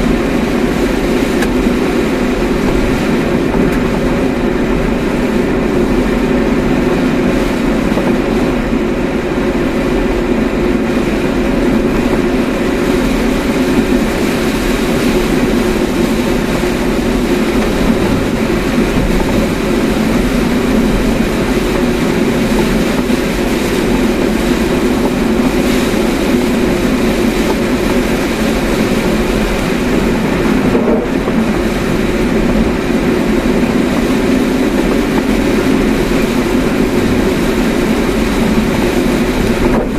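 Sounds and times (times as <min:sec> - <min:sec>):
car cabin road and engine drone: 0:00.0 - 0:39.9.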